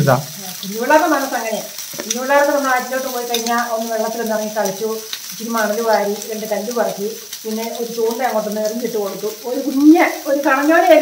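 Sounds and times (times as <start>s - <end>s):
fish frying in oil: 0.0s - 11.0s
woman talking: 0.4s - 11.0s.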